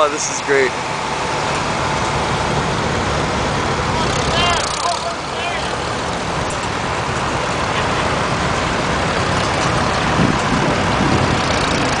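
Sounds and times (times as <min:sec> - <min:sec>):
road noise: 0:00.0 - 0:12.0
tractor engines rumbling: 0:00.0 - 0:12.0.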